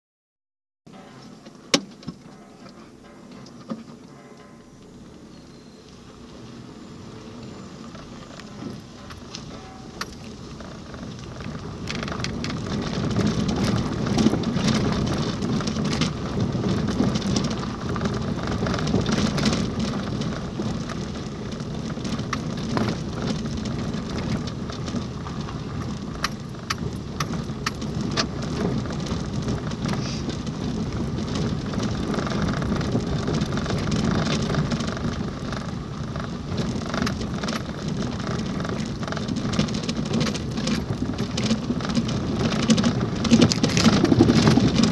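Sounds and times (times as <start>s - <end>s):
tyre and road rumble: 0.9s - 44.9s
sharp ticks and rattles: 7.8s - 44.9s.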